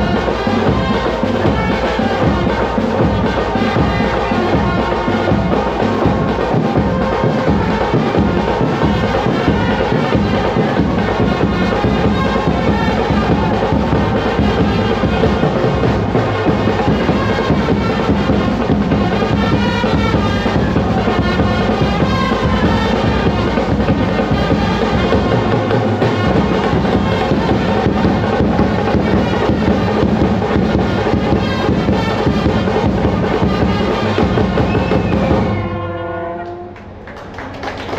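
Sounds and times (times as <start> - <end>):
trumpets and horns playing: 0.0 - 37.0
drums beating: 0.0 - 37.9.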